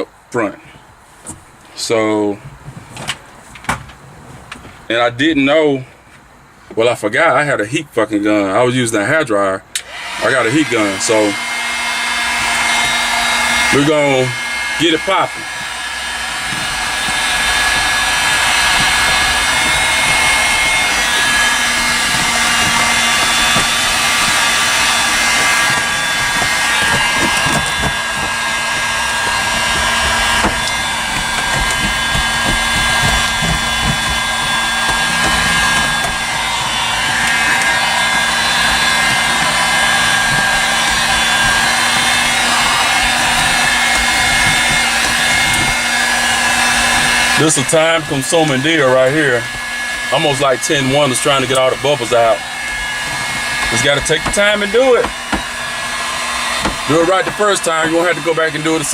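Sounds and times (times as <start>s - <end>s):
heat gun fan whine: 8.4s - 58.9s.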